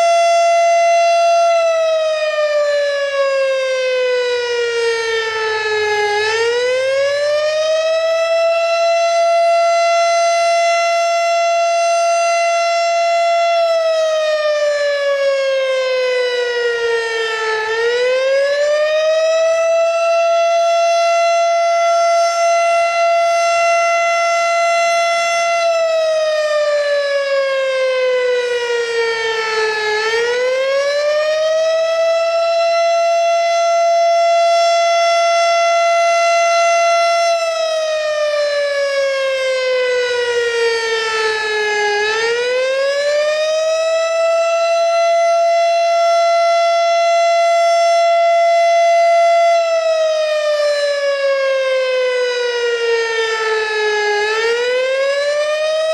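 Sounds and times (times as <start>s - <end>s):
fire siren wailing: 0.0s - 55.9s.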